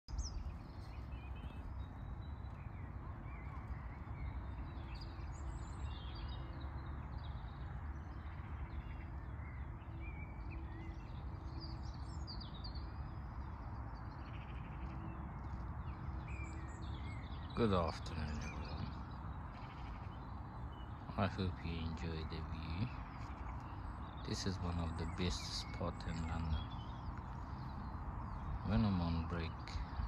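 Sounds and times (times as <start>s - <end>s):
birds chirping and whistling: 0.1s - 30.0s.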